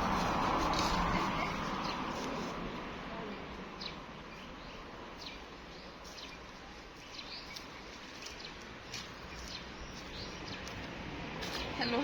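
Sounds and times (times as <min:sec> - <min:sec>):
outdoor ambience hiss: 0:00.0 - 0:12.0
small birds chirping: 0:00.2 - 0:12.0.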